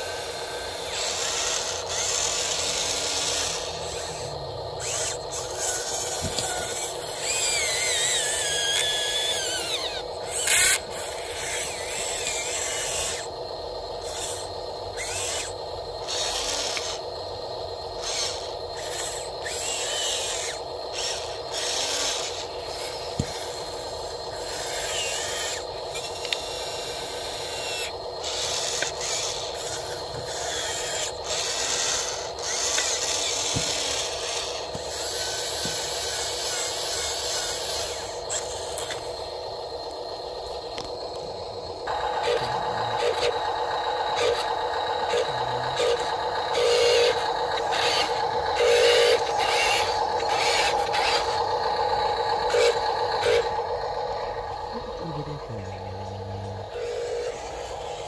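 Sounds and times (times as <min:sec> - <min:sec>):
toy excavator motors whining: 0:00.0 - 0:58.0.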